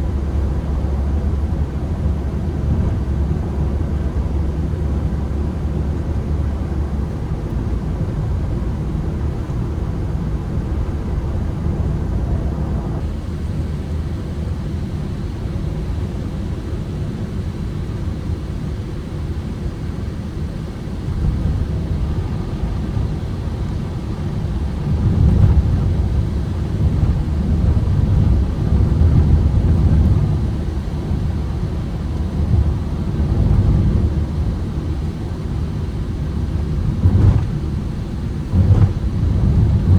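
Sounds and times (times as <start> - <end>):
road rumble: 0.0 - 39.9
van engine droning: 0.0 - 39.9.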